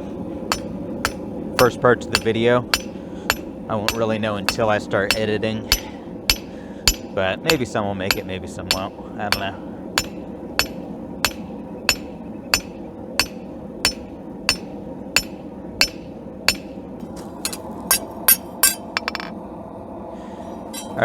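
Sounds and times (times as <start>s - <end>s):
steady rushing noise: 0.0s - 21.0s
hammer striking steel on anvil: 0.5s - 19.3s, 20.7s - 21.0s.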